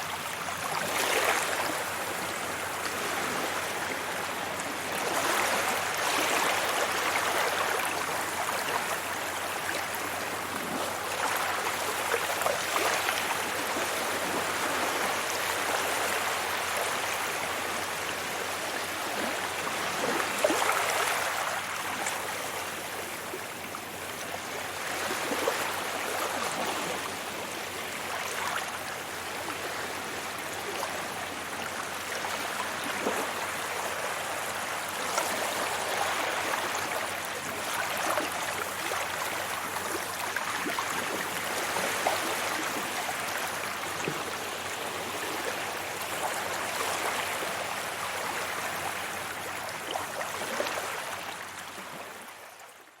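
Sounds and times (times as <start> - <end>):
waves washing onto beach: 0.0 - 52.4.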